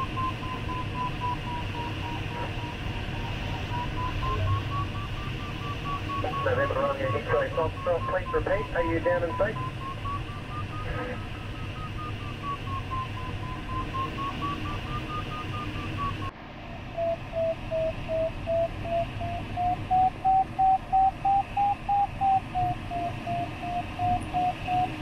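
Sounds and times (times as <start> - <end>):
rising pitch beeping: 0.0 - 16.3, 16.9 - 25.0
wavering electronic tone: 0.0 - 25.0.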